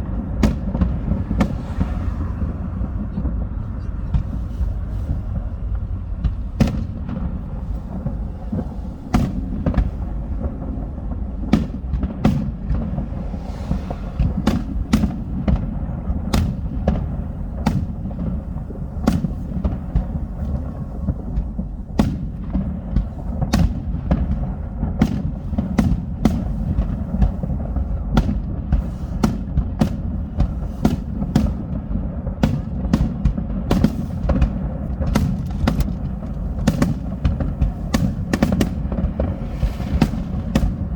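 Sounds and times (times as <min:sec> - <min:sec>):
fireworks bangs and cracks: 0:00.0 - 0:40.9
low rumble: 0:00.0 - 0:40.9.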